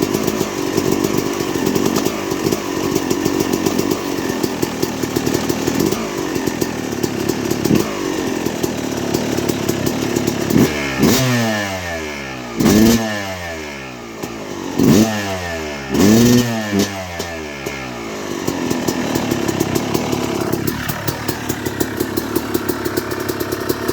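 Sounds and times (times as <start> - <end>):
dirt bike engine revving and idling: 0.0 - 23.9.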